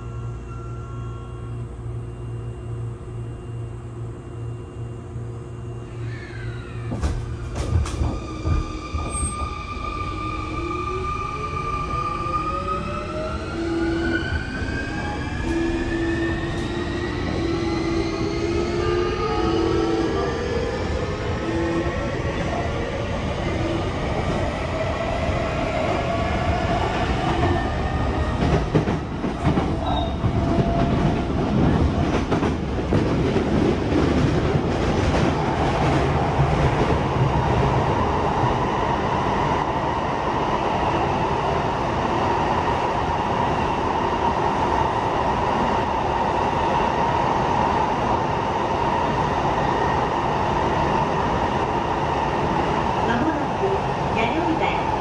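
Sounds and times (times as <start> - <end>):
train rumble with hum: 0.0 - 55.0.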